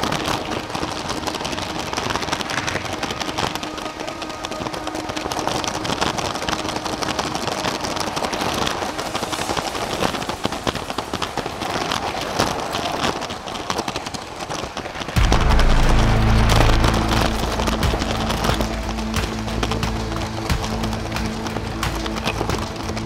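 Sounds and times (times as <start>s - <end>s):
music: 0.0s - 11.7s, 15.2s - 23.0s.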